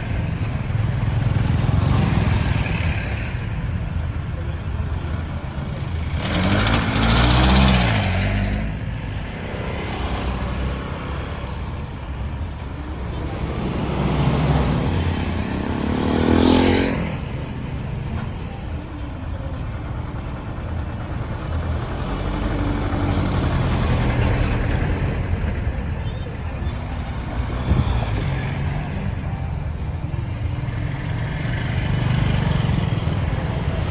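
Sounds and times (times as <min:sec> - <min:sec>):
engine rumble: 0:00.0 - 0:33.9
vehicles passing: 0:00.0 - 0:33.9.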